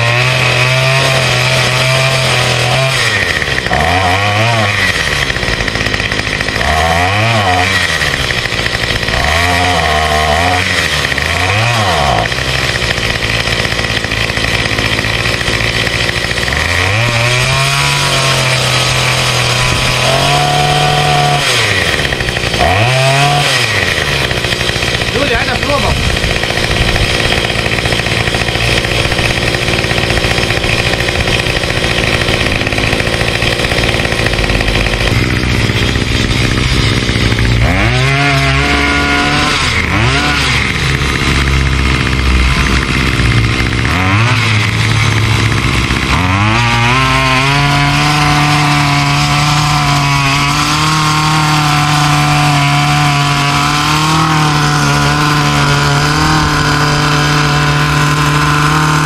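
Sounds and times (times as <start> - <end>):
mini tiller engine running: 0.0 - 59.0.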